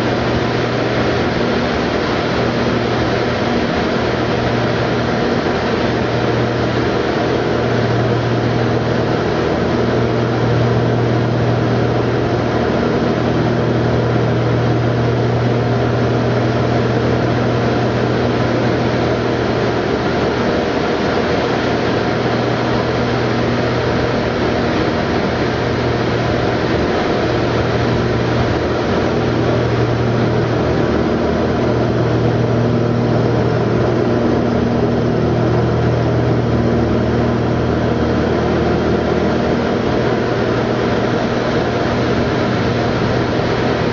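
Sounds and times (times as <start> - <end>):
airflow noise: 0.0 - 43.9
propeller aircraft engine droning: 0.0 - 43.9.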